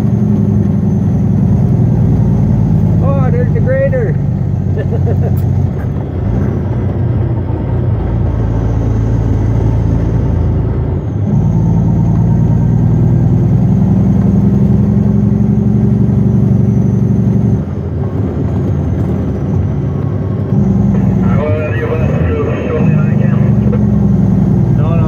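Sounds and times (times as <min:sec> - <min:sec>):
truck diesel engine pulling: 0:00.0 - 0:25.0.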